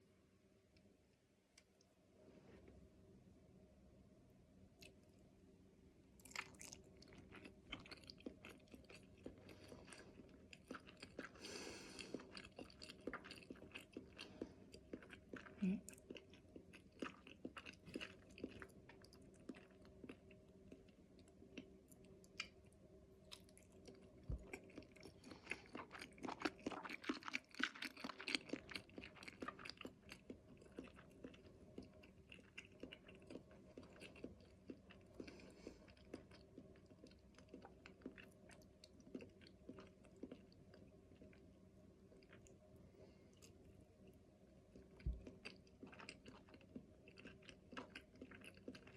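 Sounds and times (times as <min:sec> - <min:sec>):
person chewing with wet clicks: 0:04.8 - 0:05.2, 0:06.2 - 0:42.7, 0:43.3 - 0:48.9.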